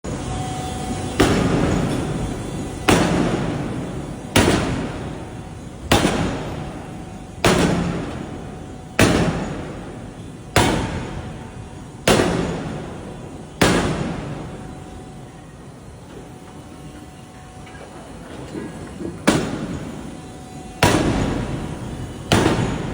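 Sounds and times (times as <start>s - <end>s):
forging hammer striking metal: 1.0s - 15.1s, 18.5s - 22.9s.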